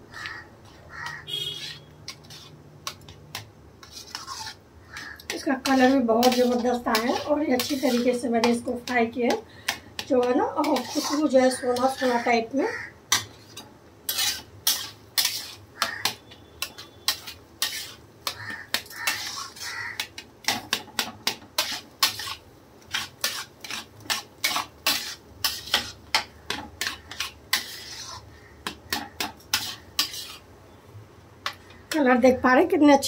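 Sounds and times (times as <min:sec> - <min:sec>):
metal spatula scraping a pan: 0:00.1 - 0:30.5.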